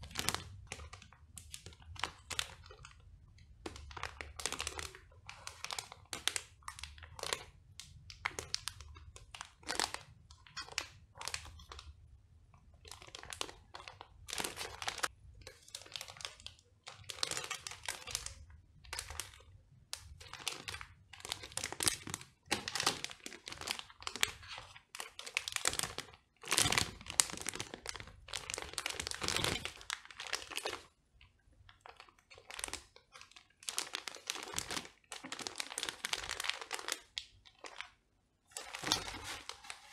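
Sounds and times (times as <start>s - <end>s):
plastic bags crinkling: 0.0s - 11.9s, 12.8s - 30.9s, 31.7s - 39.9s.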